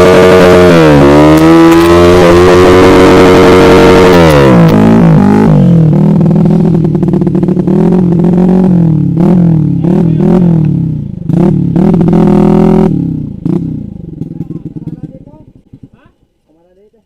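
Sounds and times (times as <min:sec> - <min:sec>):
motorcycle engine revving: 0:00.0 - 0:16.1.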